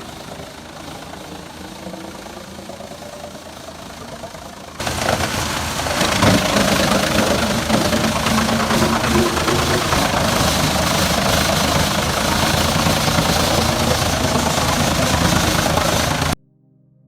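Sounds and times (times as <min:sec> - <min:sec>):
tractor engine rumble: 0:00.0 - 0:16.4
wood chipper grinding hiss: 0:00.0 - 0:16.4.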